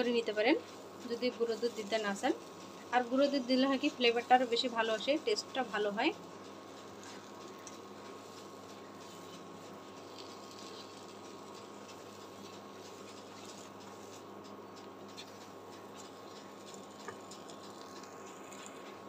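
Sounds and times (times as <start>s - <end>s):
low hum with thin whine: 0.0s - 19.0s.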